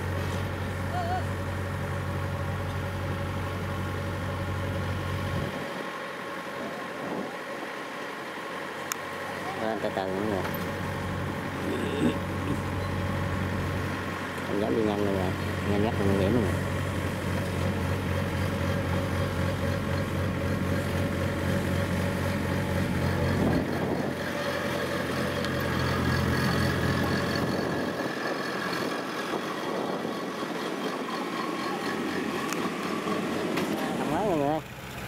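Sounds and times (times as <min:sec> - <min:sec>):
combine harvester engine running: 0:00.0 - 0:35.0.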